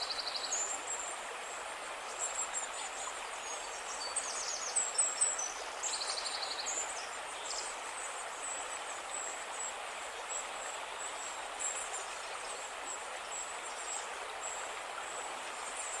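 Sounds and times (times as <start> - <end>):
flowing stream rush: 0.0 - 16.0.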